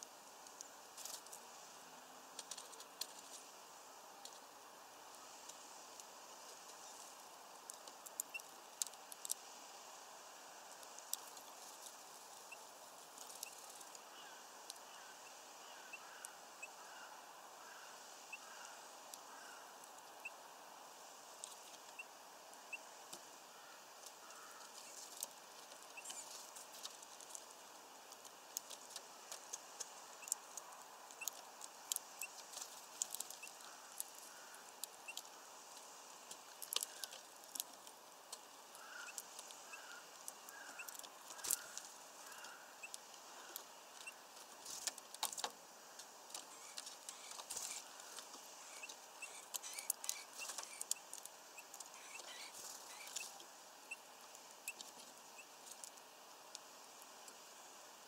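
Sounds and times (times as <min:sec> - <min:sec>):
birds pecking seeds at feeder: 0:00.1 - 0:20.4, 0:21.2 - 0:58.0.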